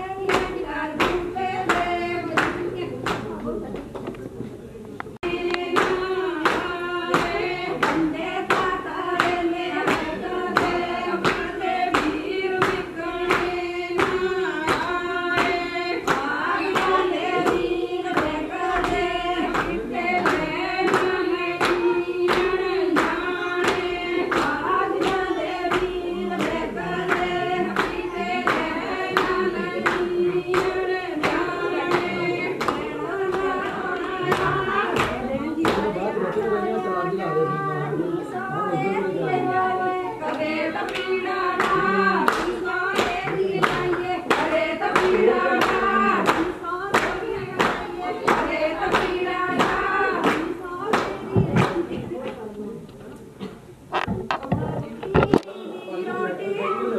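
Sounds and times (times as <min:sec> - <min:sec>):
women singing folk song: 0:00.0 - 0:03.0, 0:05.2 - 0:52.2
hand-clapping on the beat: 0:00.1 - 0:03.3, 0:05.2 - 0:36.4, 0:39.6 - 0:52.4.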